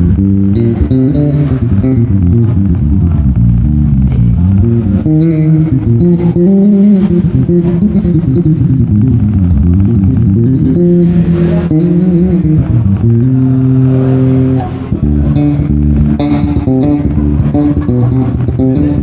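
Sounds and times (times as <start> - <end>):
electric bass playing: 0.0 - 19.0.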